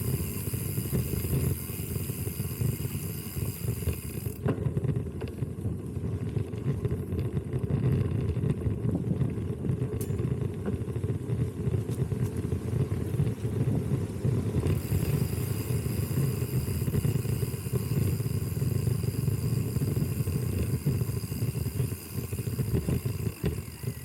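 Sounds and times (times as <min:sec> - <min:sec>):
bike knocks and rattles: 0:00.0 - 0:24.0
wind buffeting microphone: 0:00.0 - 0:24.0.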